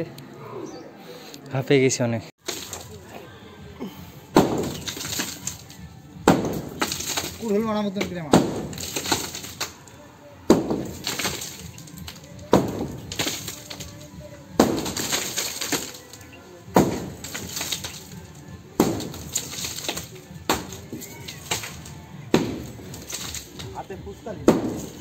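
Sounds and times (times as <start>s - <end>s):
rubble cracking and falling: 2.4s - 3.2s, 4.4s - 25.0s.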